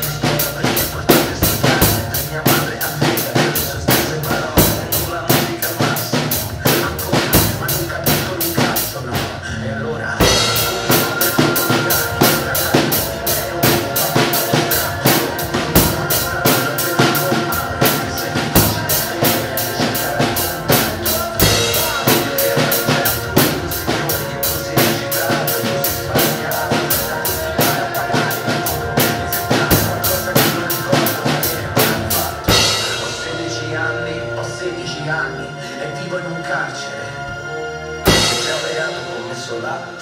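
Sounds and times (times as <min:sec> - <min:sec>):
drum kit playing rock beat: 0:00.0 - 0:09.4, 0:10.2 - 0:33.8, 0:38.0 - 0:39.3
instrumental backing track: 0:00.0 - 0:40.0.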